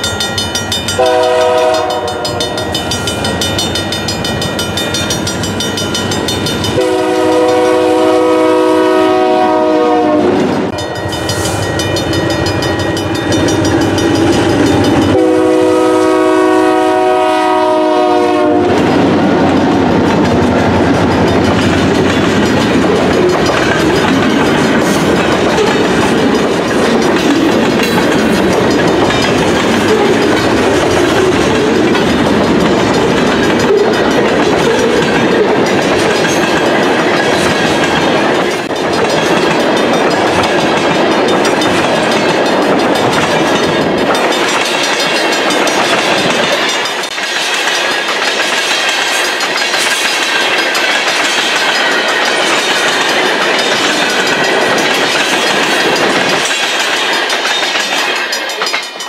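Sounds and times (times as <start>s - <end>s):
train wheels clattering over rail joints: 10.5s - 18.0s, 18.6s - 59.0s.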